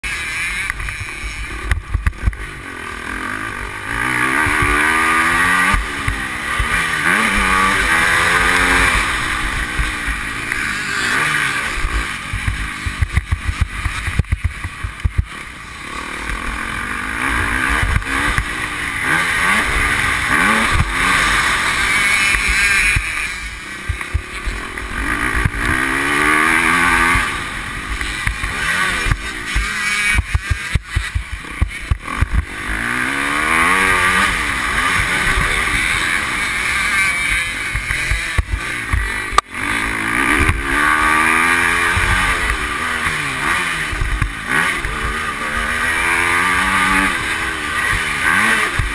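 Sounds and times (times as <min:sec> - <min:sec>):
motocross engine revving: 0:00.0 - 0:48.9.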